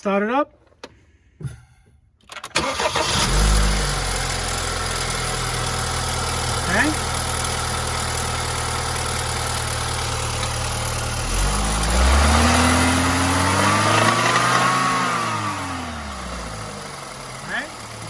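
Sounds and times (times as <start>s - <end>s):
car engine idling and revving: 2.3s - 18.0s.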